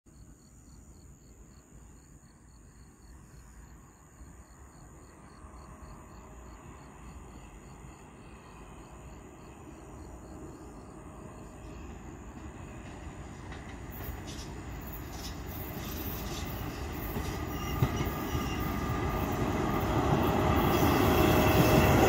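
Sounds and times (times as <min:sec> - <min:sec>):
insect chirping: 0:00.1 - 0:22.0
distant train rumble: 0:01.4 - 0:22.0.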